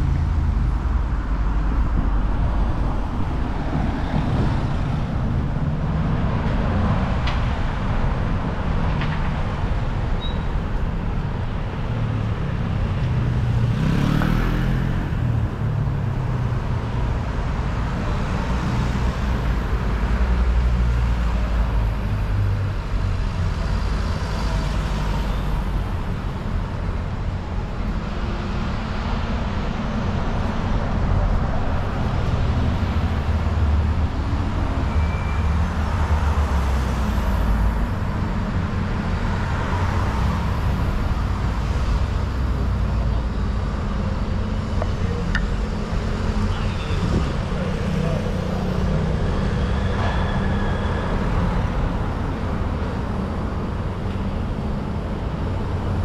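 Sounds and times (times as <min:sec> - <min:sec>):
cars driving past: 0:10.8 - 0:56.0.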